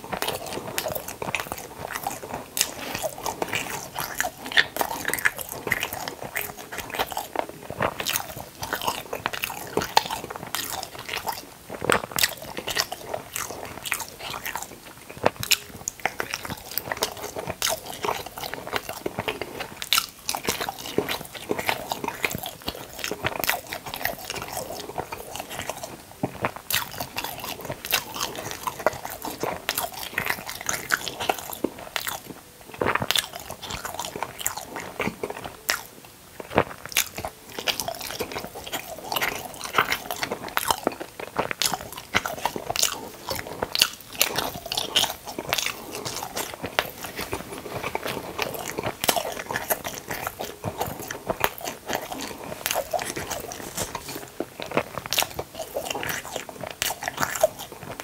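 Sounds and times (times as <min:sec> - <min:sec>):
crunching bites and chewing: 0:00.0 - 0:58.0.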